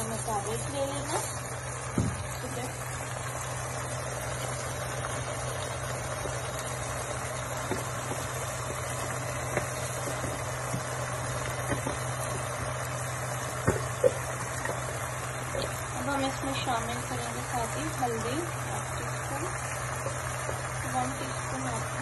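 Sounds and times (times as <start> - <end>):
sauce sizzling and bubbling: 0.0 - 22.0.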